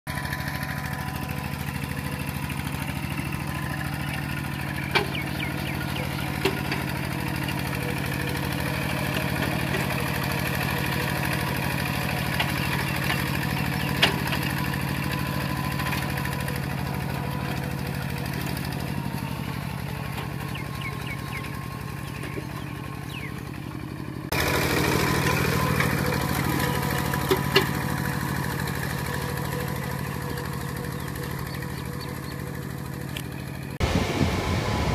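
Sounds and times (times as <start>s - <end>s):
diesel tractor engine running: 0.1s - 34.9s.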